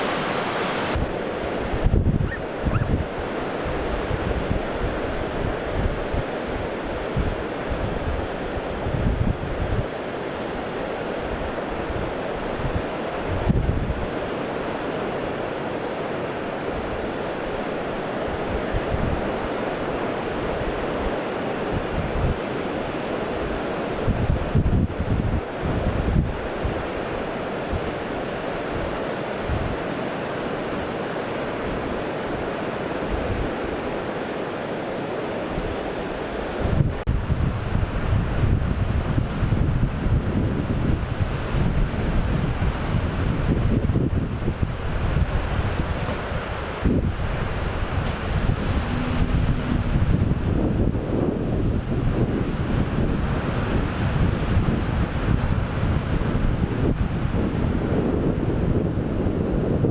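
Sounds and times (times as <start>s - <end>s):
wind buffeting microphone: 0.0s - 9.9s, 11.2s - 14.8s, 16.7s - 29.8s, 35.4s - 59.9s
ocean surf washing: 0.0s - 37.1s, 44.3s - 59.2s.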